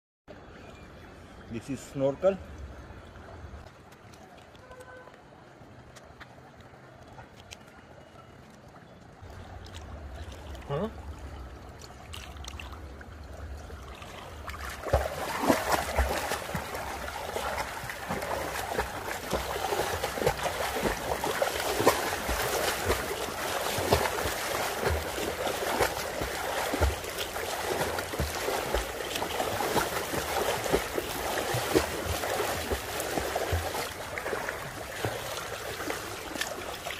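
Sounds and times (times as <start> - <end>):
pool water splashing: 0.3 - 36.9.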